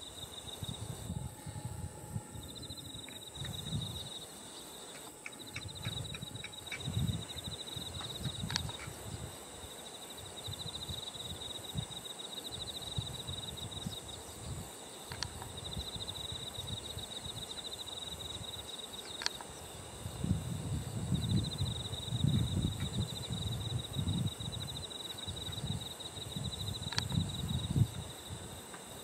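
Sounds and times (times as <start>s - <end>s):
high-pitched insect drone: 0.0s - 29.0s
insects trilling: 0.0s - 29.0s.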